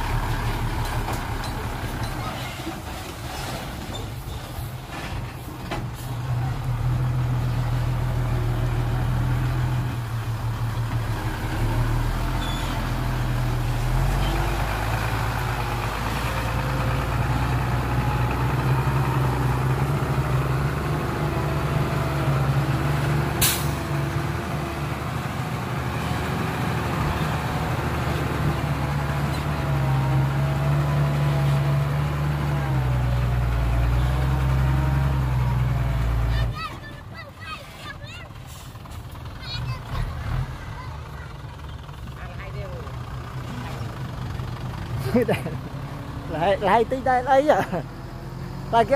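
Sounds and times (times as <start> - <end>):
heavy diesel engine under load: 0.0 - 48.9.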